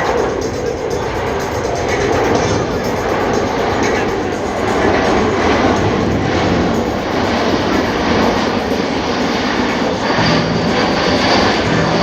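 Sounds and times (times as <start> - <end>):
jet engines roaring: 0.0 - 12.0
thin high whine: 0.0 - 12.0.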